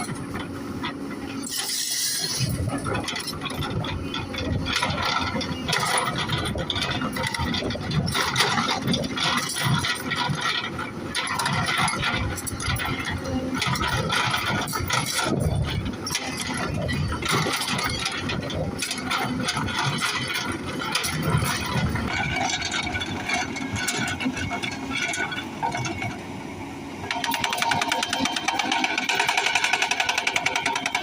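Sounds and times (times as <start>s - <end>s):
excavator diesel engine: 0.0s - 31.0s
hydraulic breaker hammering stone: 1.4s - 26.1s, 27.1s - 31.0s.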